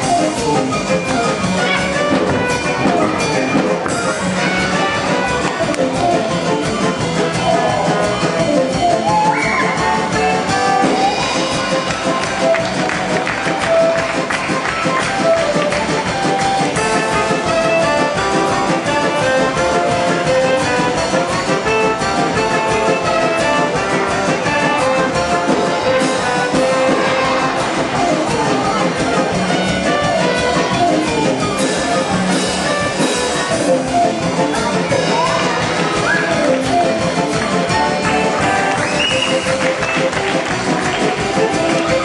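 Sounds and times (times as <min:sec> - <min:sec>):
instrumental music: 0:00.0 - 0:42.0.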